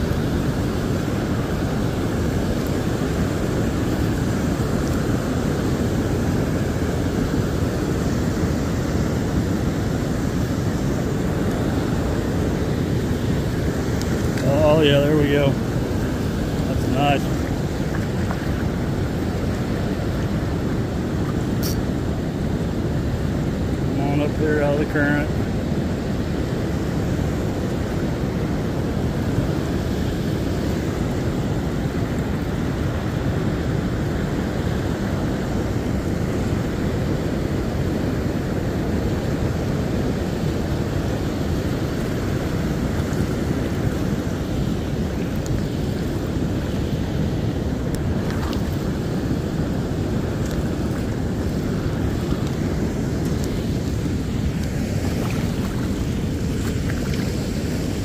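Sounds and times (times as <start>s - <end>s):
river rushing over riffle: 0.0s - 58.0s.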